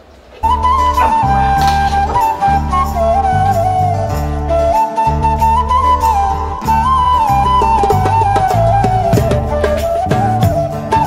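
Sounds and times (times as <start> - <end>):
flute-like melody: 0.3 - 11.0
low bass accompaniment: 0.4 - 11.0.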